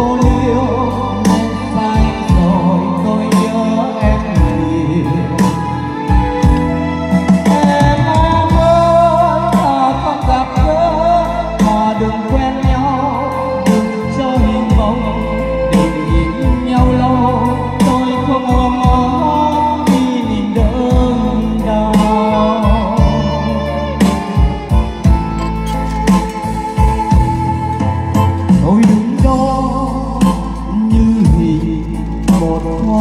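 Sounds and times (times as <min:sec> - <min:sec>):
song with band through loudspeakers: 0:00.0 - 0:33.0.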